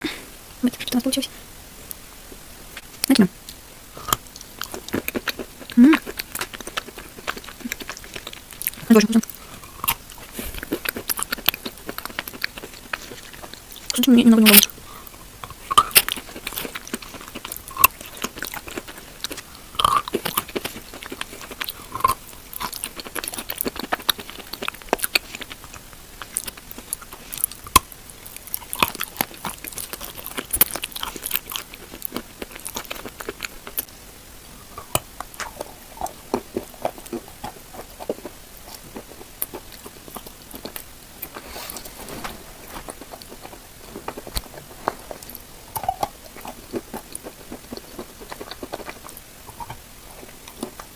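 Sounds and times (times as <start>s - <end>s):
chewing crunchy paste: 4.0s - 33.9s, 34.6s - 50.9s.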